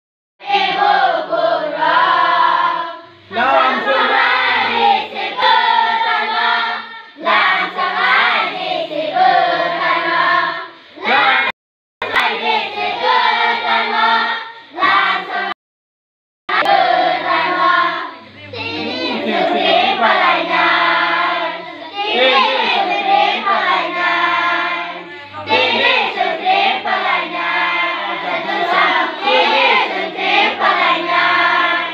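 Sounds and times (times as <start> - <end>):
children singing: 0.4 - 15.6, 16.5 - 31.9.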